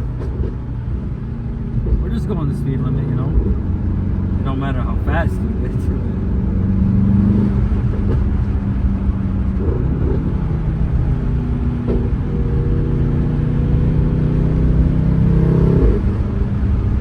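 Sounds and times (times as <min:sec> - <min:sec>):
car exhaust droning: 0:00.0 - 0:17.0.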